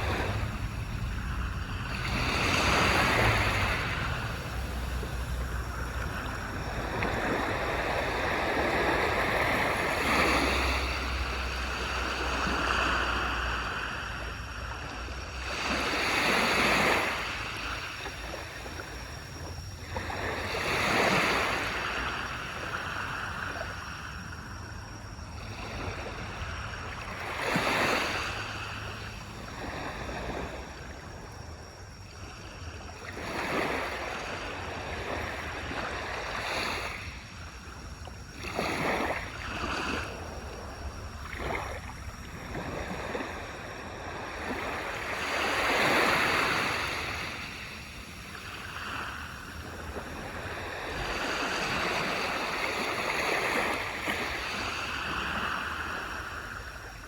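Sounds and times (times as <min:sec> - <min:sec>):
waves washing onto beach: 0:00.0 - 0:24.0, 0:33.6 - 0:57.0.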